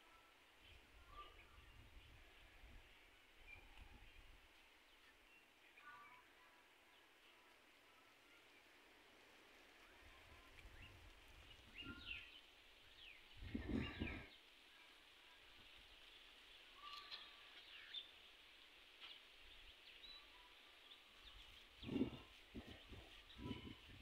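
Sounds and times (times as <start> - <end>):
faint bird chirps: 0.0 - 8.7, 9.8 - 14.9, 16.6 - 18.2, 19.0 - 24.0
rustle: 0.0 - 24.0.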